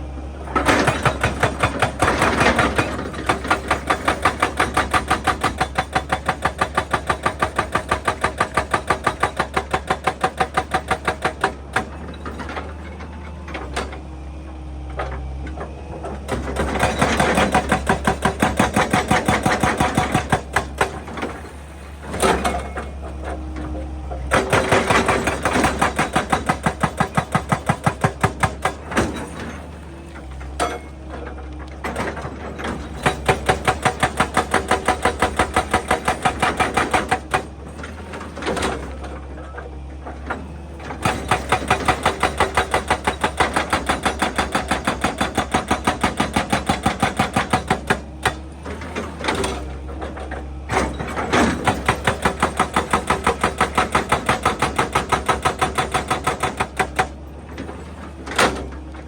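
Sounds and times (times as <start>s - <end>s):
hydraulic breaker hammering rock: 0.4s - 14.0s, 14.9s - 59.0s.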